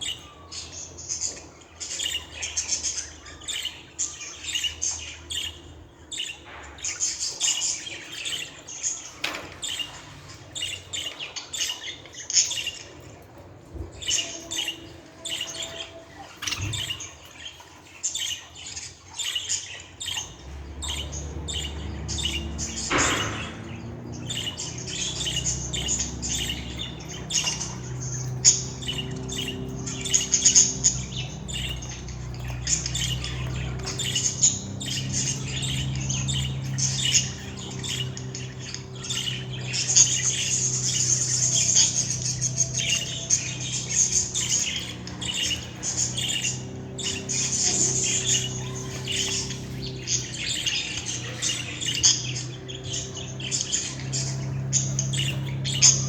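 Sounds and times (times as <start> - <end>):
budgerigar chirping and squawking: 0.0 - 56.0.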